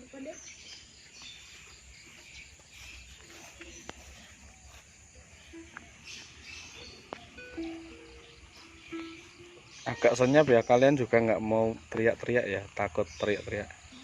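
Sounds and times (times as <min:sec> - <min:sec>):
bird-like chirps: 0:00.0 - 0:14.0
faint insects chirring: 0:00.0 - 0:14.0.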